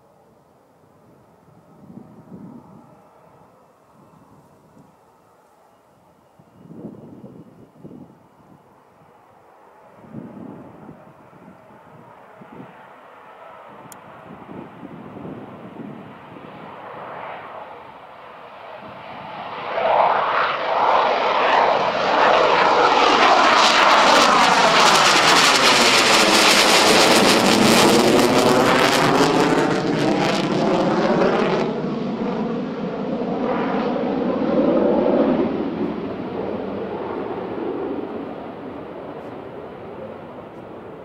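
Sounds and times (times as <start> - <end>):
fighter jet engines roaring: 6.6 - 41.0.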